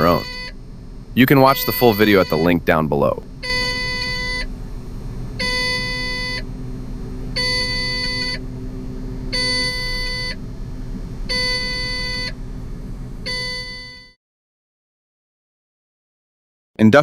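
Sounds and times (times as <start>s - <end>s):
machine engine running: 0.0s - 14.1s
warning alarm beeping: 0.0s - 14.2s.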